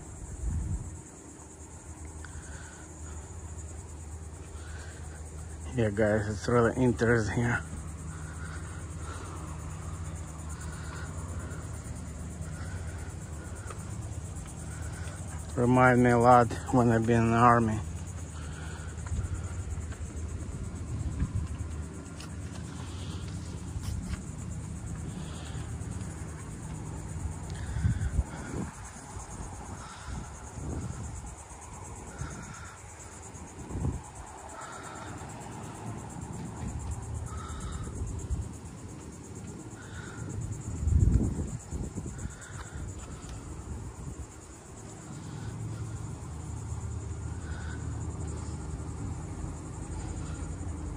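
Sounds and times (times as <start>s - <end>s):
high insect trilling: 0.0s - 50.9s.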